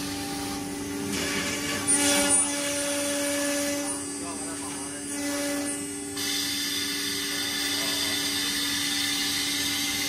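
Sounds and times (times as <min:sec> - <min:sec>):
router machinery humming and hissing: 0:00.0 - 0:10.0.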